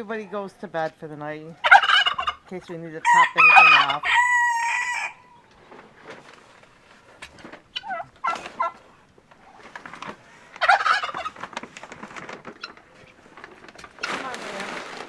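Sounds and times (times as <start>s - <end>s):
chickens calling: 0.0s - 14.6s.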